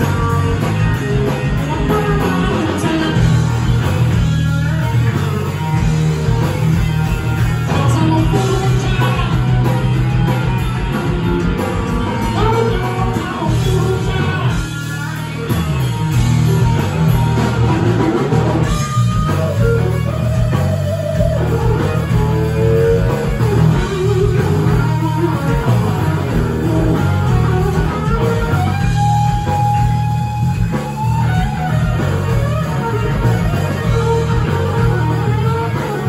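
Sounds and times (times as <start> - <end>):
bass guitar: 0.0 - 36.0
drum kit: 0.0 - 36.0
electric guitar lead: 0.0 - 36.0.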